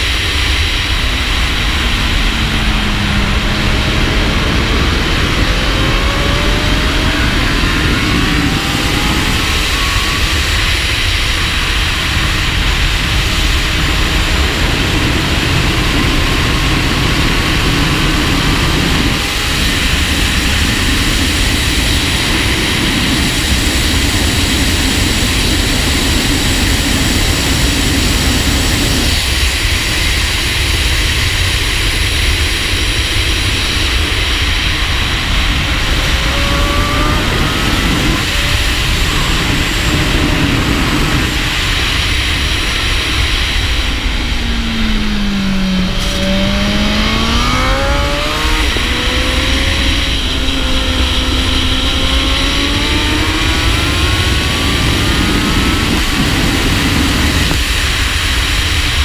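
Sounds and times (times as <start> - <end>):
faint motorcycle engine: 0.0 - 59.0
wind roaring over camera: 0.0 - 59.0.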